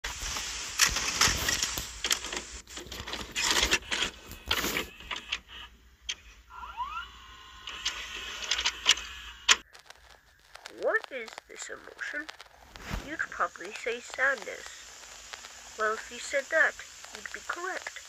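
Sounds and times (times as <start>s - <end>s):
crackling static with clicks: 0.0s - 18.0s.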